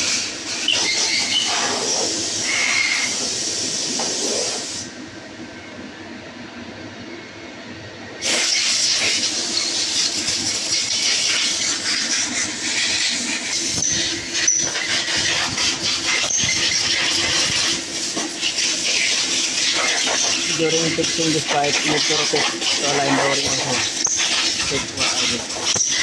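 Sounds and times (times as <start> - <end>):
loud steady hiss: 0.0 - 5.0, 8.2 - 26.0.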